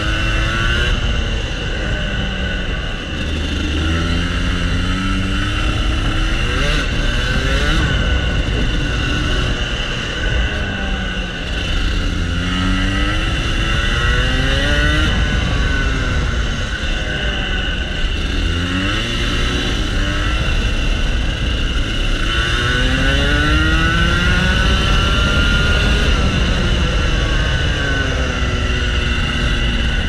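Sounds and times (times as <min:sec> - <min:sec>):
kart engine revving: 0:00.0 - 0:30.0.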